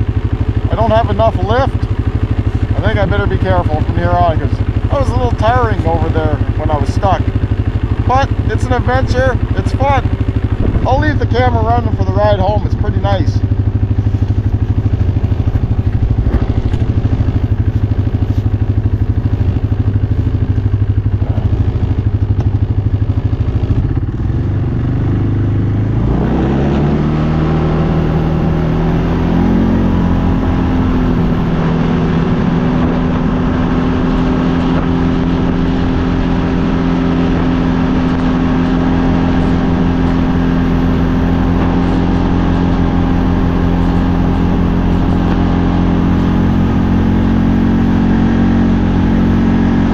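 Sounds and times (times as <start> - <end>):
atv engine chugging: 0.0 - 49.9.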